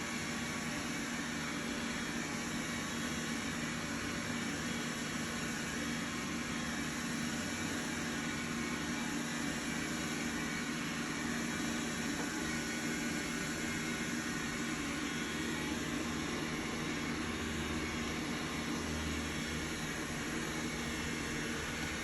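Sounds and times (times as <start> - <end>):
motor humming with hiss: 0.0 - 22.0.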